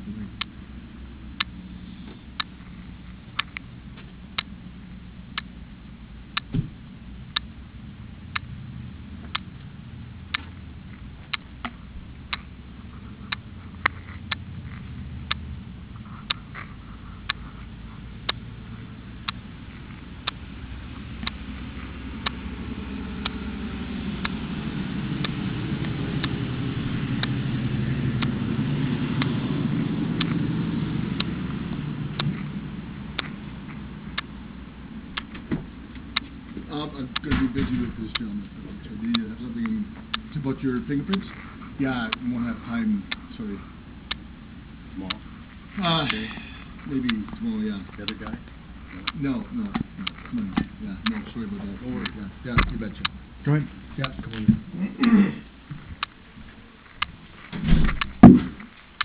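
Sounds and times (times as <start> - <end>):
sharp ticking: 0.0 - 57.3
vehicle engine rumbling: 0.0 - 59.0.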